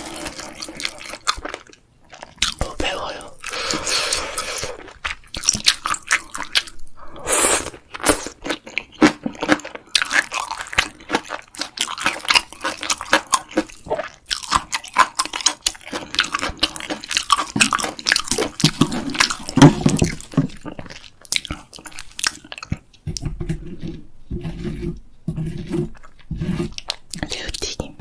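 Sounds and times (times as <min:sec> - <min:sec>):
wet mouth sounds: 0:00.0 - 0:23.3
person chewing crunchy food: 0:00.0 - 0:27.8.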